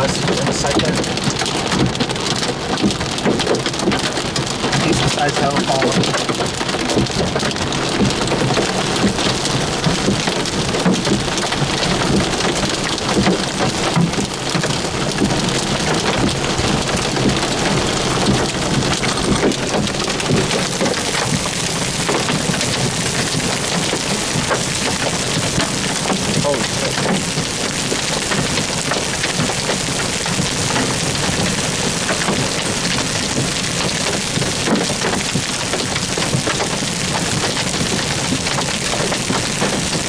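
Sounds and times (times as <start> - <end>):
rain on a car roof: 0.0 - 40.0.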